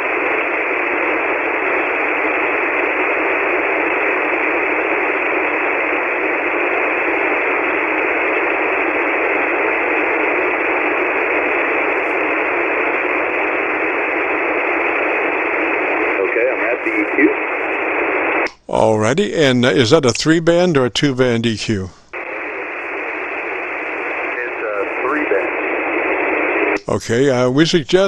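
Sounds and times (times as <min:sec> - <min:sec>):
radio receiver hiss: 0:00.0 - 0:28.0.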